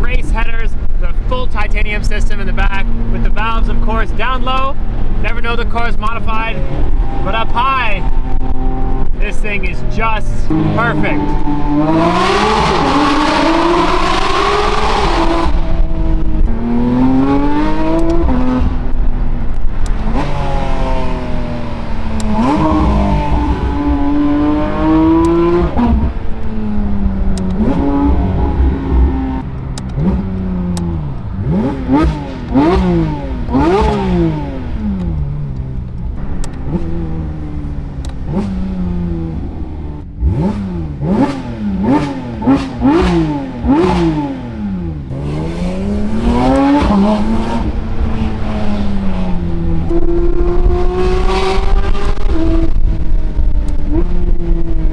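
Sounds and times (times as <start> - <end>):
sports car engine revving through gears: 0.0 - 54.9.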